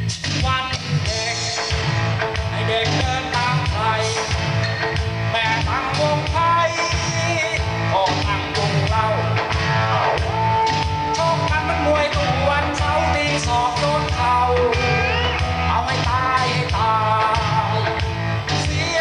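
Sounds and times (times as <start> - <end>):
instrumental song from vinyl record: 0.0 - 19.0.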